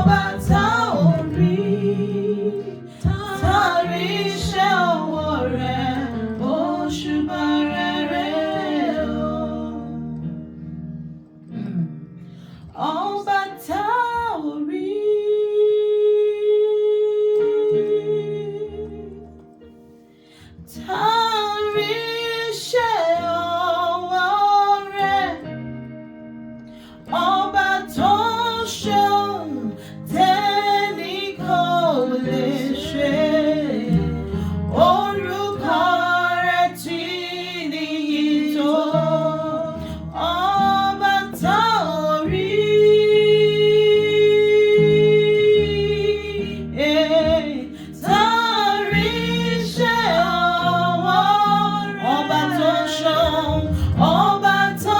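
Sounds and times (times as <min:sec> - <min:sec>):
woman singing: 0:00.0 - 0:10.2, 0:12.8 - 0:19.5, 0:20.7 - 0:25.8, 0:27.0 - 0:54.9
guitar backing: 0:00.0 - 0:14.4, 0:17.1 - 0:54.9.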